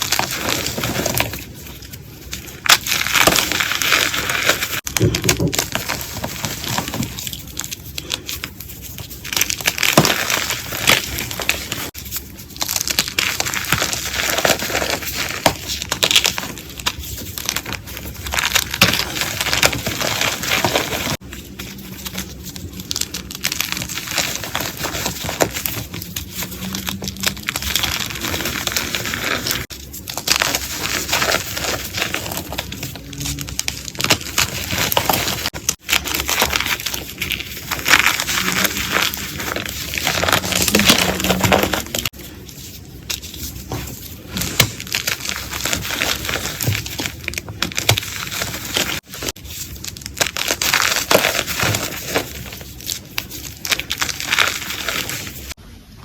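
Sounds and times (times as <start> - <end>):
chalk being crushed: 0.0 - 55.6.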